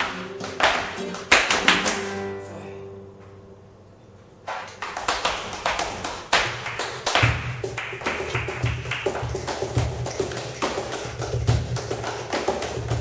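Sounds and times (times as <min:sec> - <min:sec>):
flamenco guitar: 0:00.0 - 0:13.0.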